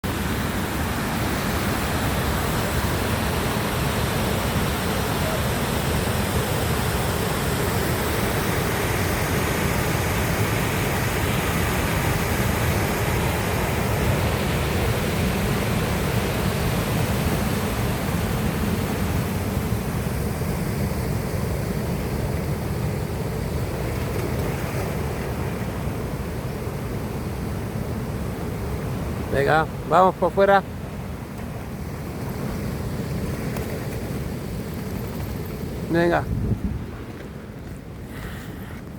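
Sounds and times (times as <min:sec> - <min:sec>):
rushing water: 0:00.0 - 0:36.2.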